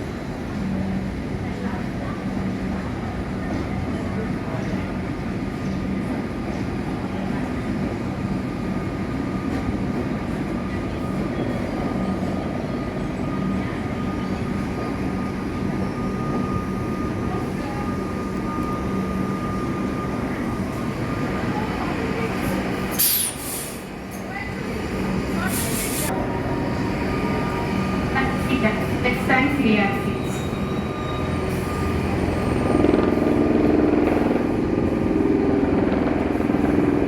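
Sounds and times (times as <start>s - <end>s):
electric train rumble: 0.0s - 37.0s.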